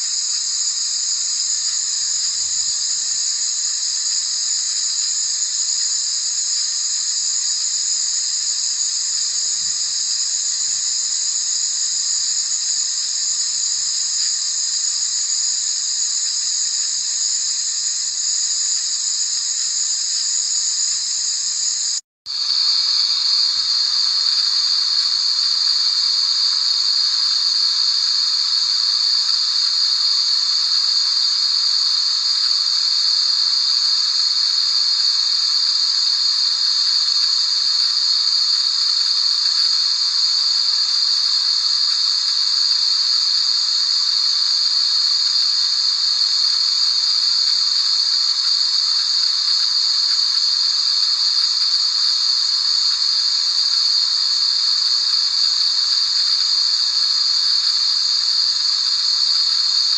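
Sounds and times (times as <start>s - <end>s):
high-pitched white noise hiss: 0.0s - 59.9s.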